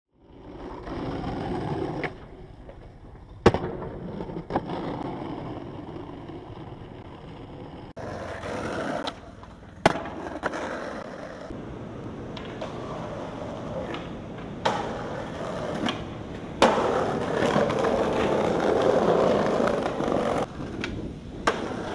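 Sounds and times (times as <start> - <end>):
skateboard wheels rolling on asphalt: 0.1 - 21.9
skateboard clacking on ground: 0.6 - 21.9.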